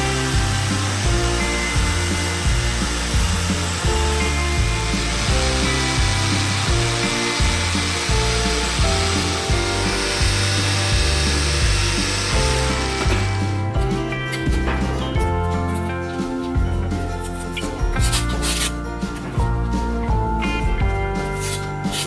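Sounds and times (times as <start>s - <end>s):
background music with steady beat: 0.0s - 22.0s.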